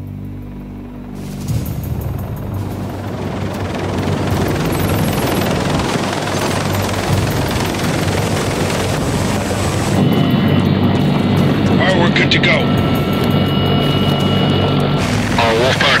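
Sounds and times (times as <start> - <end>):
helicopter rotors turning: 0.2 - 16.0.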